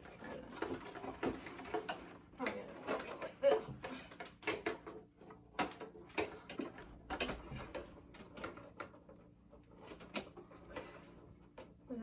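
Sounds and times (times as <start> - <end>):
plastic parts clicking and knocking: 0.0 - 11.8.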